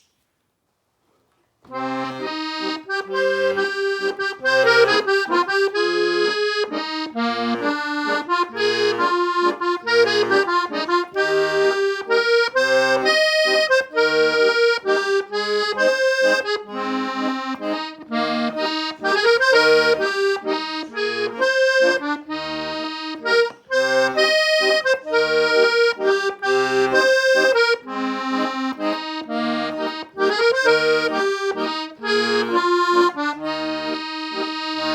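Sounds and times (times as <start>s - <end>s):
accordion playing a waltz: 1.7s - 34.9s.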